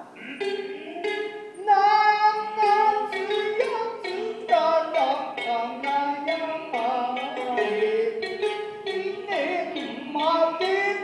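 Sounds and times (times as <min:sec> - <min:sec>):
person chanting: 0:00.0 - 0:11.0
shamisen plucks: 0:00.0 - 0:11.0.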